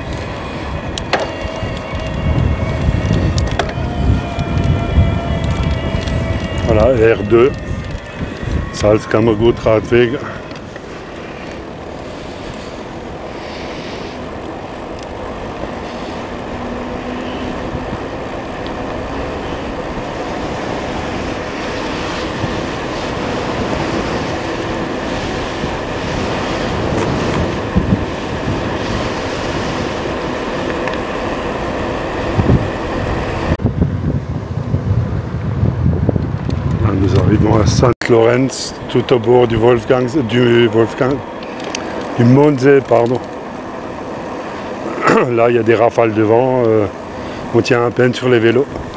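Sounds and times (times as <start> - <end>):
low wind buffeting thumps: 0.0 - 48.9
wind rushing over microphone: 0.0 - 48.9.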